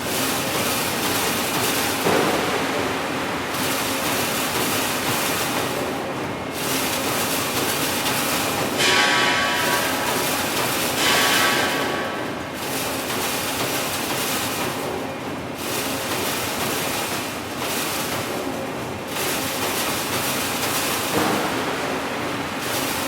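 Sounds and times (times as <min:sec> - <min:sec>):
factory machinery din: 0:00.0 - 0:23.0.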